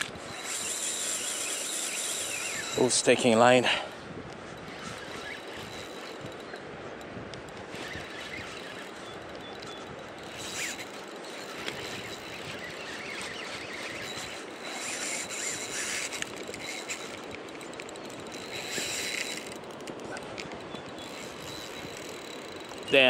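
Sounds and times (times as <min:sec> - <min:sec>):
fishing reel drag ratcheting: 0:00.0 - 0:03.6, 0:04.4 - 0:23.0.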